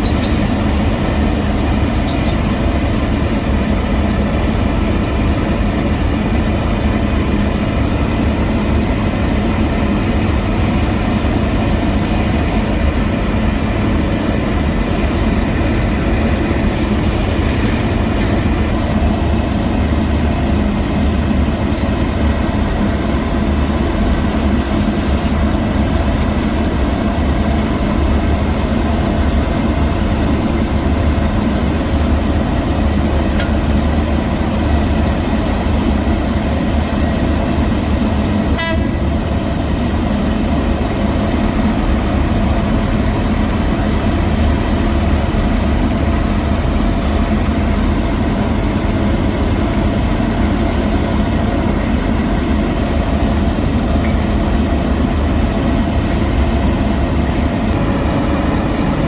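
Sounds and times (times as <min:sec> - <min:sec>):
diesel machinery engine drone: 0:00.0 - 0:59.0.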